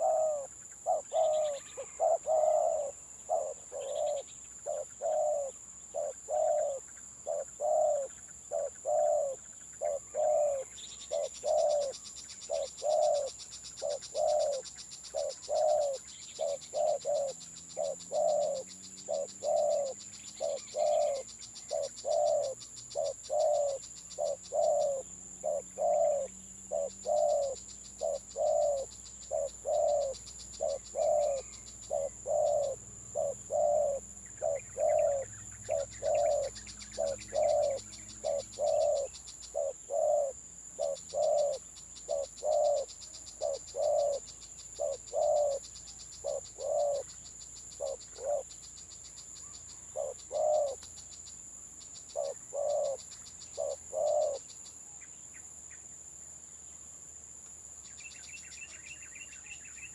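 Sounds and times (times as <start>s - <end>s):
doves cooing: 0.0s - 47.1s, 47.8s - 48.5s, 49.9s - 50.8s, 52.1s - 53.0s, 53.6s - 54.4s
insects high whine: 0.0s - 59.9s
insects pulsing chirps: 0.0s - 59.9s.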